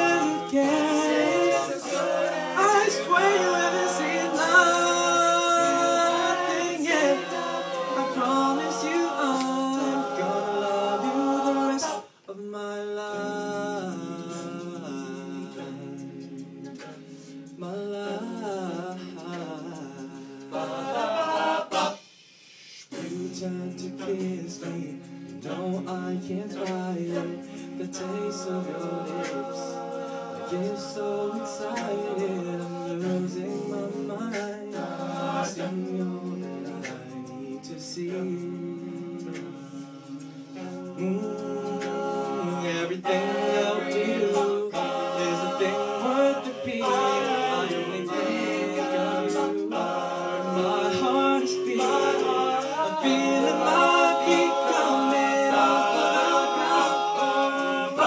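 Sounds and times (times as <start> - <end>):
male a cappella group singing: 0.0 - 58.0.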